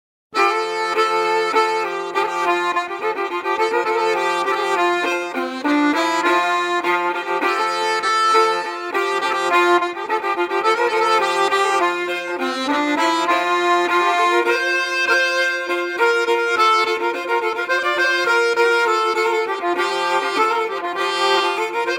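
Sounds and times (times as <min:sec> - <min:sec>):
accordion melody: 0:00.4 - 0:21.9.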